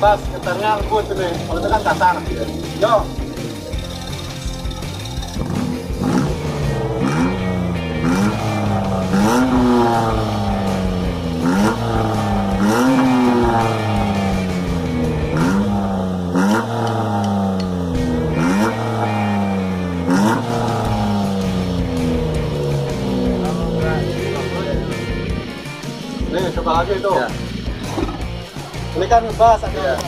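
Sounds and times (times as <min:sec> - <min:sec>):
engine revving through exhaust: 0:00.0 - 0:29.0.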